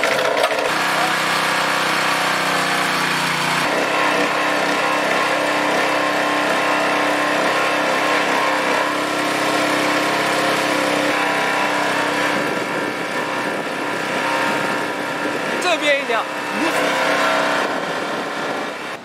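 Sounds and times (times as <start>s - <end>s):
petrol engine running: 0.0s - 19.0s.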